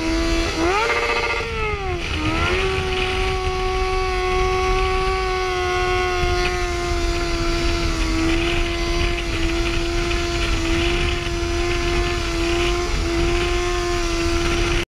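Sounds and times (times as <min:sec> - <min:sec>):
wind buffeting microphone: 0:00.0 - 0:14.8
motorcycle engine at high revs: 0:00.0 - 0:14.9.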